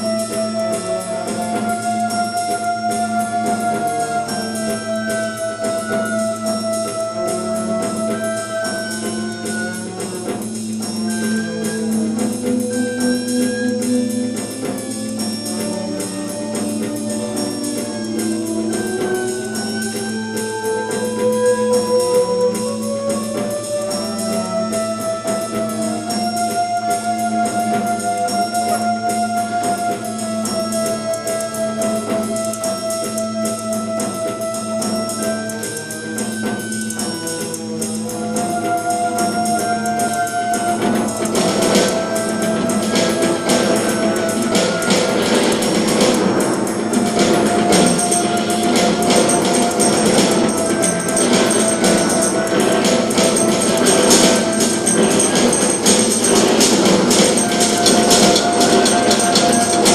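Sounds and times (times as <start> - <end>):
instrumental music with drone: 0.0 - 59.9.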